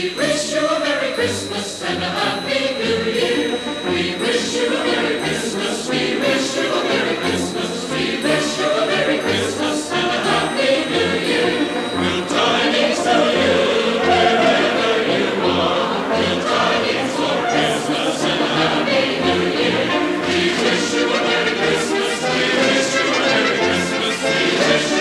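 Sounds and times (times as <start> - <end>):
choir singing: 0.0 - 25.0
instrumental accompaniment: 0.0 - 25.0.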